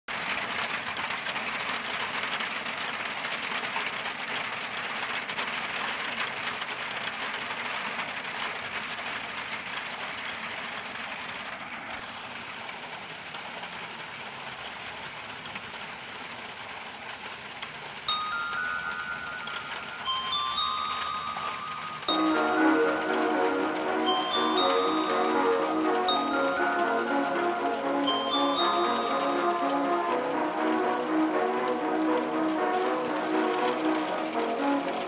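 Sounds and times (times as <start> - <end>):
steady rain: 0.1 - 35.0.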